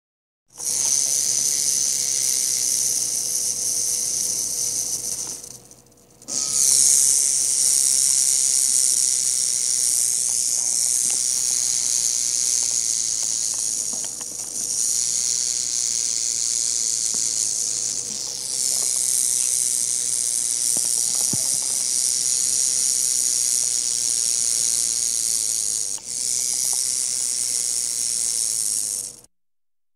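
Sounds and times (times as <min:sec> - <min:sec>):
rattlesnake tail rattling: 0:00.5 - 0:29.3.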